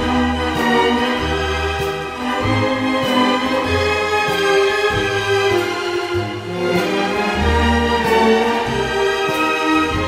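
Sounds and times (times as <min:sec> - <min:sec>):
orchestral bowed strings: 0:00.0 - 0:10.0.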